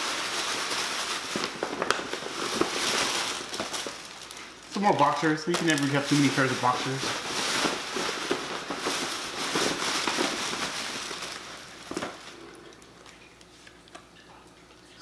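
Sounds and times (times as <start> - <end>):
tissue paper rustling: 0.0 - 13.2.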